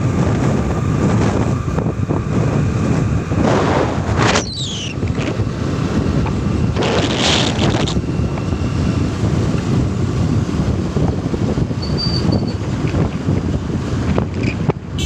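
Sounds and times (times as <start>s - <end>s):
steady low rumble: 0.0s - 15.0s
wind buffeting microphone: 0.0s - 15.0s.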